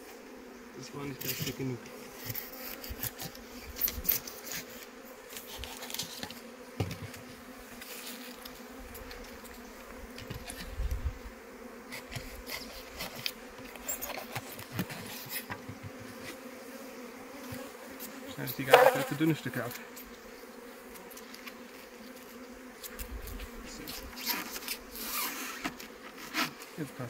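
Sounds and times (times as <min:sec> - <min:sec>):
honeybees buzzing: 0:00.0 - 0:27.0.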